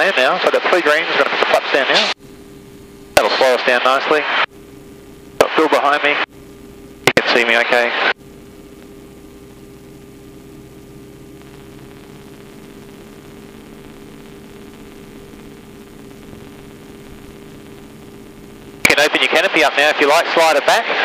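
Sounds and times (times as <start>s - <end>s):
intercom hum and hiss: 0.0s - 21.0s
muffled aircraft engine drone: 0.0s - 21.0s.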